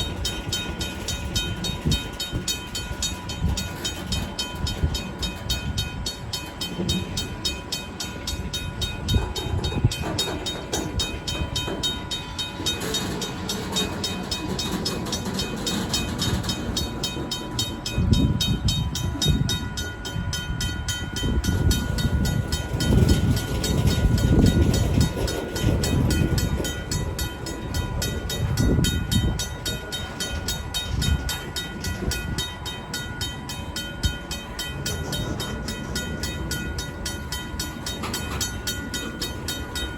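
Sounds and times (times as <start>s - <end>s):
railroad crossing bell ringing: 0.0s - 39.9s
train wheels rumbling and clanking: 0.0s - 39.9s.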